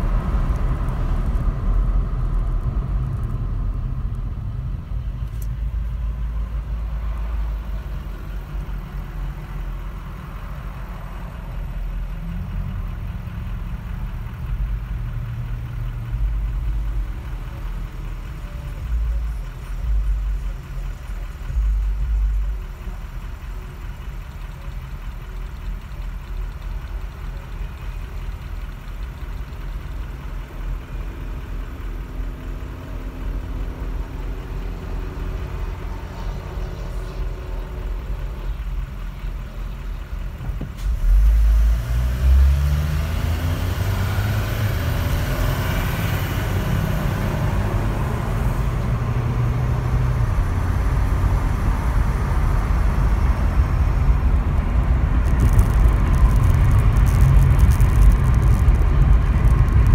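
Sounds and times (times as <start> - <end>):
car engine idling and accelerating: 0.0 - 59.9
road and wind noise: 0.0 - 59.9.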